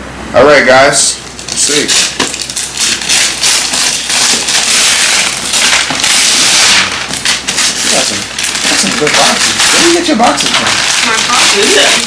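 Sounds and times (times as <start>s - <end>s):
wrapping paper tearing and crumpling: 1.4s - 12.0s.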